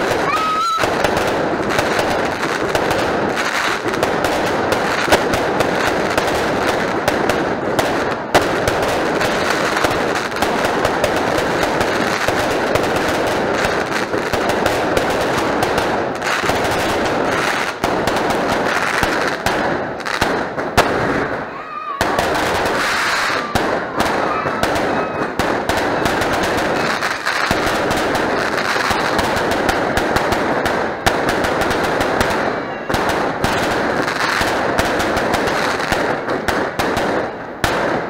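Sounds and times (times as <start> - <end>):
fireworks crackling and popping: 0.0 - 38.0
loud firework cracks: 0.0 - 38.0.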